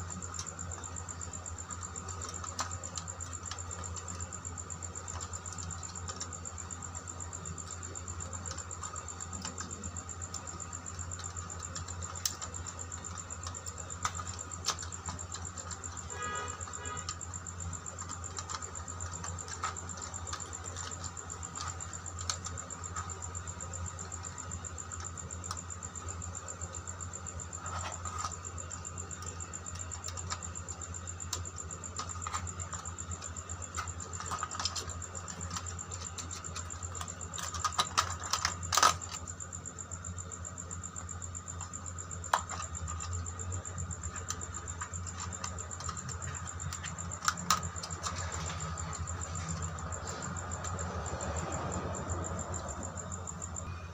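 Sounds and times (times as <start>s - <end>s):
faint high whine: 0.0s - 53.9s.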